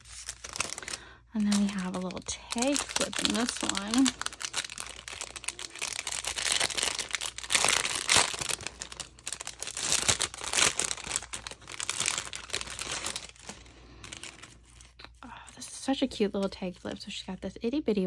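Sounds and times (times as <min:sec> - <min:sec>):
cellophane sleeve crinkling: 0:00.0 - 0:15.2.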